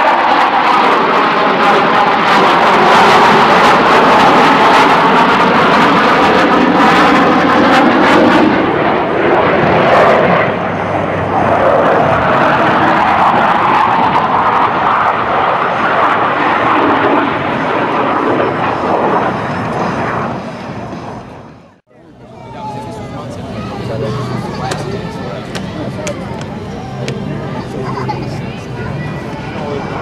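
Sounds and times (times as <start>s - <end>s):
jets roaring overhead: 0.0s - 30.0s.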